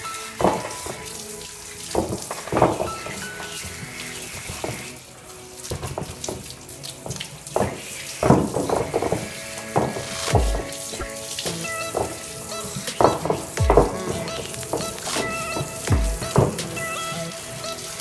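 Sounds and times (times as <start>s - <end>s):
background music: 0.0s - 18.0s
water running and splashing: 0.0s - 18.0s.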